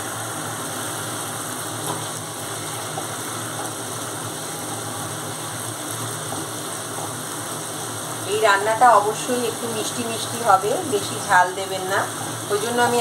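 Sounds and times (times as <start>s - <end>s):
spice paste sizzling: 0.0s - 13.0s.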